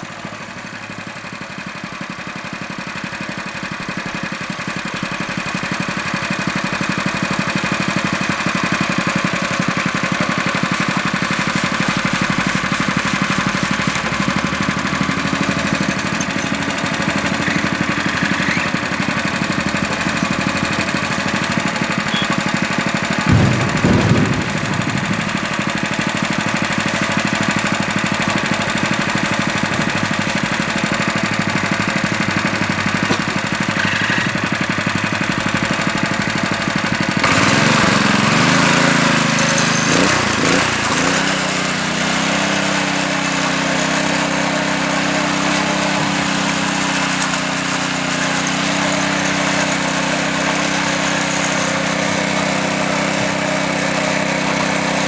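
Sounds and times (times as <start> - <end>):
power trowel engine running: 0.0 - 55.0.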